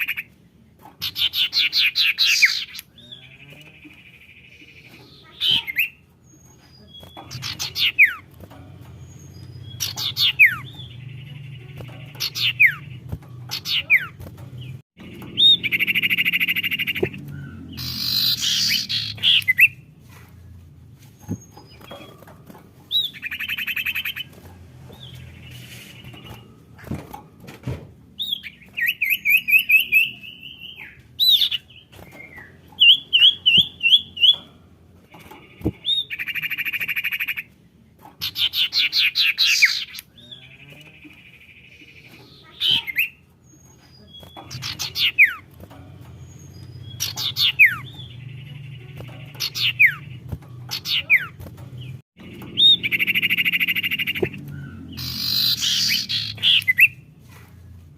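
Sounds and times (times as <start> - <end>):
songbird buzzy trills and chirps: 0.0 - 27.1, 28.1 - 57.3.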